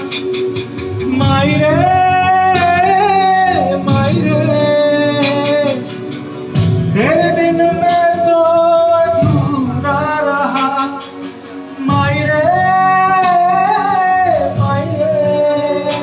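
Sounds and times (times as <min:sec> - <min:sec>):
instrumental backing: 0:00.0 - 0:16.0.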